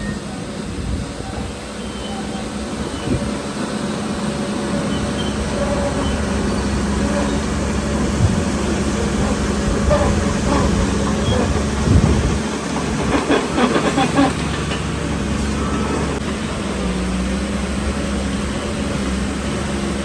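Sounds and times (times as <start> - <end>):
diesel earthmoving machinery running: 0.0 - 20.0.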